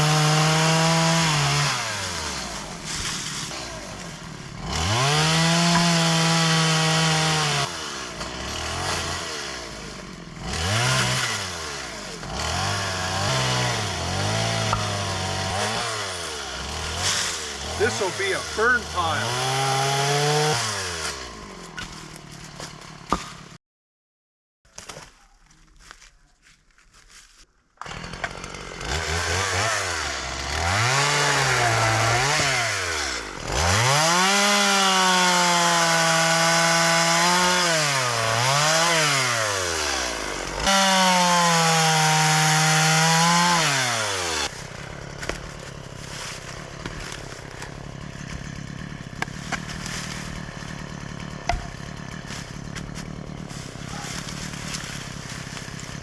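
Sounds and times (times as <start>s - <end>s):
chainsaw cutting wood: 0.0s - 23.6s, 27.8s - 56.0s.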